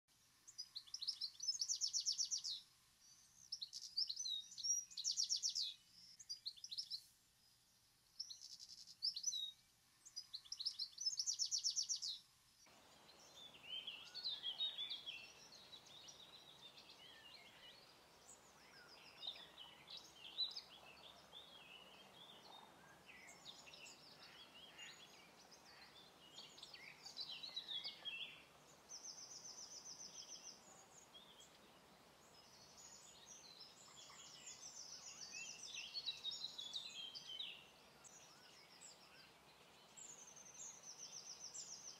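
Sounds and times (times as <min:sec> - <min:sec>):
steady background hiss: 0:00.1 - 0:41.9
goldfinch twittering and trills: 0:00.5 - 0:06.9, 0:08.2 - 0:41.9.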